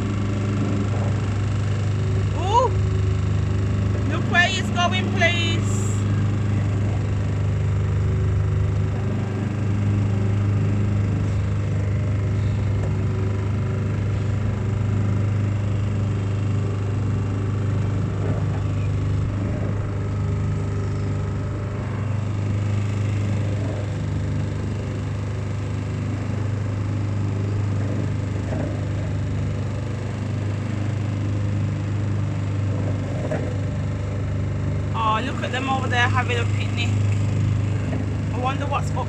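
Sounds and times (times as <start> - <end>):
motor boat engine humming: 0.0 - 39.0.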